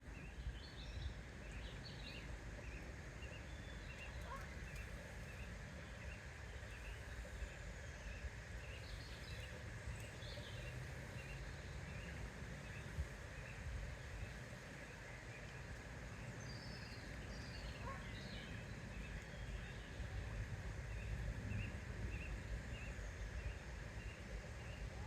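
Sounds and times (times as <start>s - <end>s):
low outdoor rumble: 0.0s - 25.0s
birds chirping: 0.2s - 25.0s.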